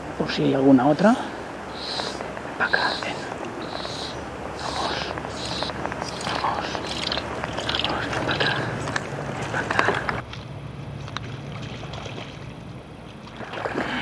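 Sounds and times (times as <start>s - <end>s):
low steady hum: 0.0s - 14.0s
rustle: 0.0s - 14.0s
water splashing and sloshing: 1.0s - 14.0s.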